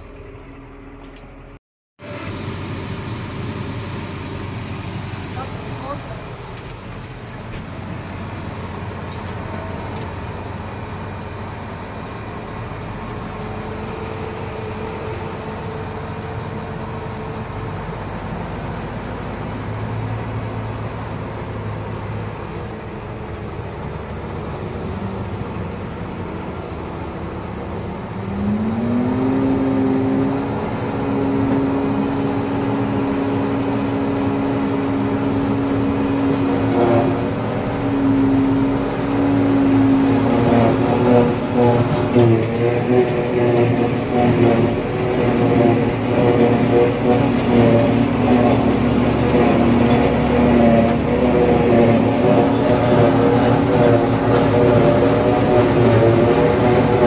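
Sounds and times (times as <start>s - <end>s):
engine whine: 0.0s - 57.0s
tractor and harvester engines: 0.0s - 57.0s.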